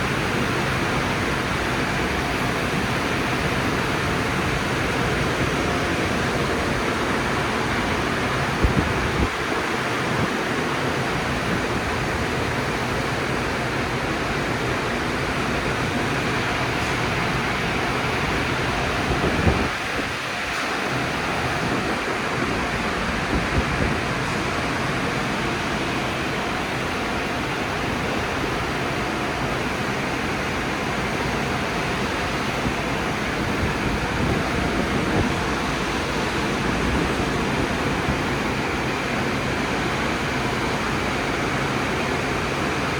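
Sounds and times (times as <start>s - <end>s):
car wash equipment rushing: 0.0s - 42.9s.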